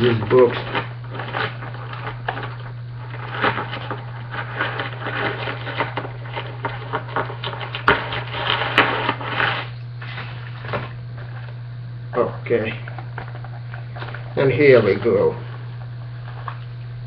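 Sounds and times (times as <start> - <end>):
cardboard rustling and scraping: 0.0 - 11.6, 12.8 - 16.7
steady low hum: 0.0 - 17.0.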